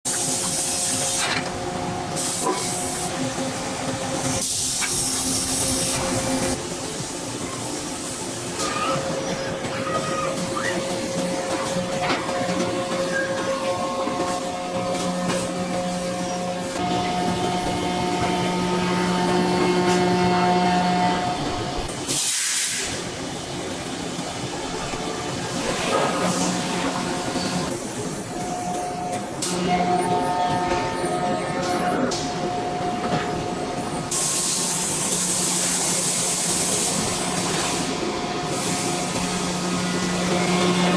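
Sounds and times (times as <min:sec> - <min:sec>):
machinery humming: 0:00.1 - 0:40.9.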